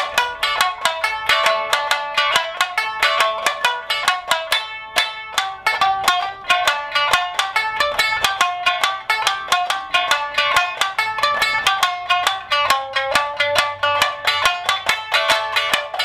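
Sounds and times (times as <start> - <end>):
shamisen plucked melody: 0.0 - 16.0.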